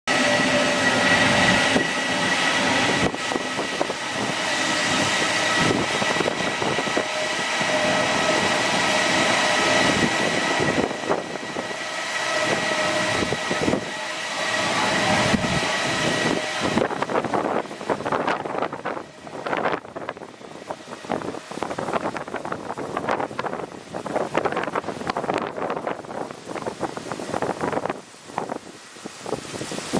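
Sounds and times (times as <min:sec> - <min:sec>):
jet engine rushing noise: 0:00.1 - 0:29.9
jet engines whining: 0:00.1 - 0:29.9.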